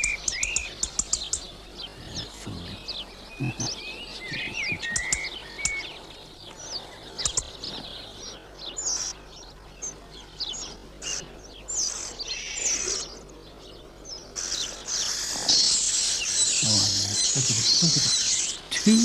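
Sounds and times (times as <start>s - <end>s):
young robins begging calls: 0.0s - 19.0s.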